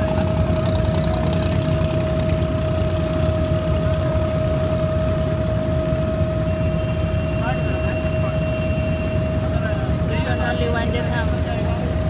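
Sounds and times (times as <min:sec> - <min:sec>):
boat diesel engine rumbling: 0:00.0 - 0:12.0
steady engine whine: 0:00.0 - 0:12.0.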